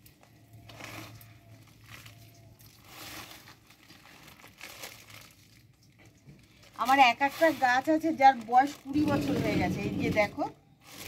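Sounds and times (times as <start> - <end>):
hands scooping dry compost: 0.0 - 5.8, 6.5 - 11.0
plastic sheet crinkling: 0.0 - 11.0.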